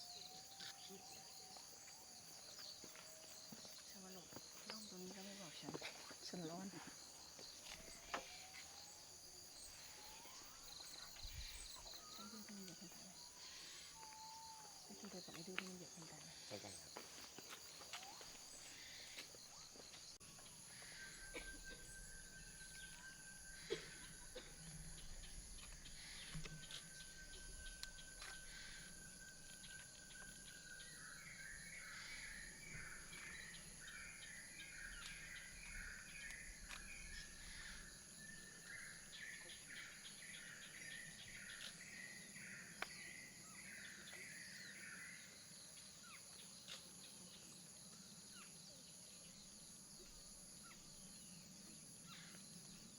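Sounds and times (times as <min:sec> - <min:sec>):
bird chirping: 0:00.0 - 0:47.6
insects buzzing: 0:00.0 - 0:52.9.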